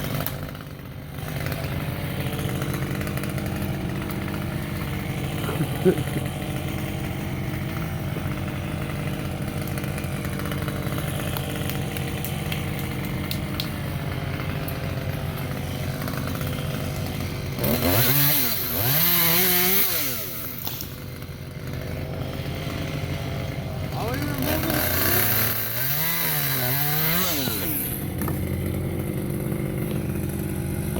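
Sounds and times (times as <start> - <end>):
chainsaw idling and revving: 0.0 - 30.9.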